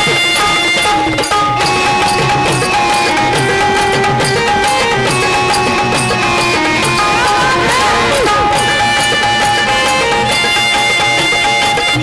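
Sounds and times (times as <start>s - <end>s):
long held instrument notes: 0.0s - 12.0s.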